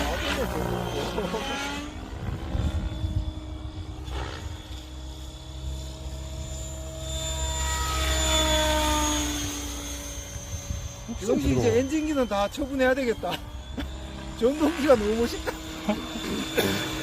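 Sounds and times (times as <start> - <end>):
rc helicopter motor whine: 0.0 - 17.0.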